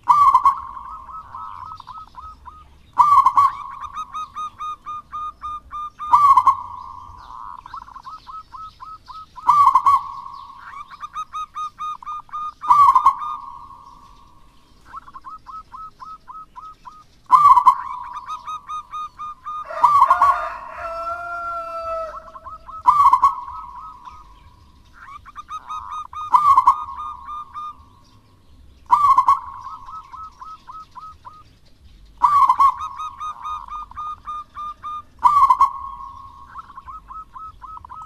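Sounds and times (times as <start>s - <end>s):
dove cooing: 0.0s - 28.0s, 28.8s - 31.4s, 32.2s - 38.0s
lower dove call: 0.0s - 28.2s, 28.8s - 31.5s, 32.2s - 38.0s.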